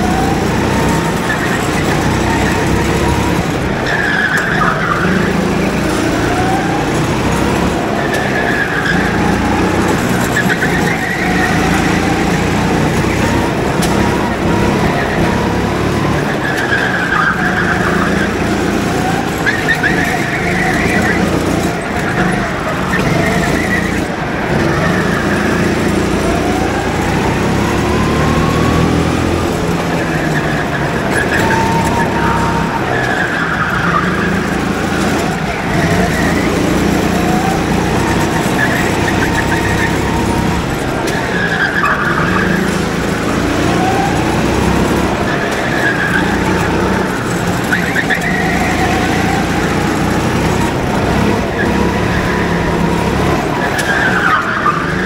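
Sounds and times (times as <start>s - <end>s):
go-kart engines revving: 0.0s - 55.0s
tyres squealing: 0.0s - 55.0s.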